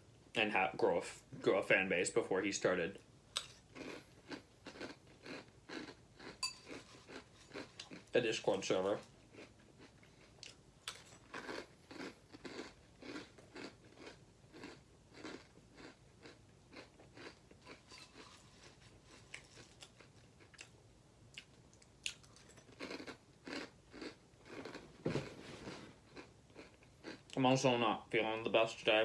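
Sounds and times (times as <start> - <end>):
crunchy cereal chewing: 3.4 - 25.4, 26.0 - 27.4.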